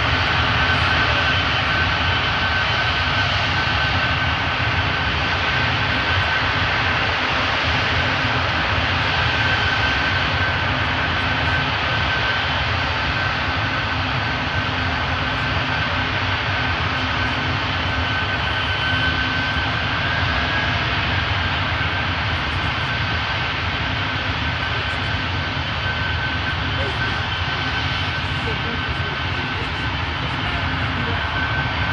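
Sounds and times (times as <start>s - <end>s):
jet engines with high whine: 0.0s - 31.9s.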